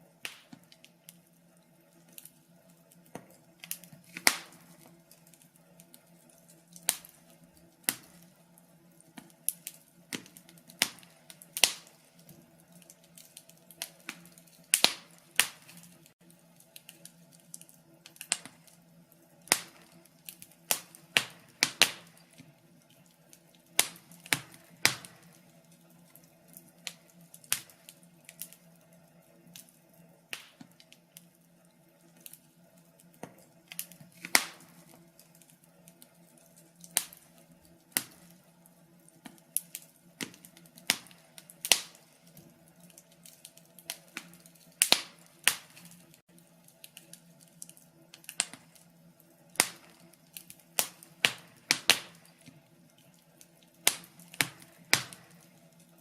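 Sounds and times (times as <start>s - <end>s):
faint steady hum: 0.0s - 56.0s
wood fire crackling: 0.0s - 56.0s.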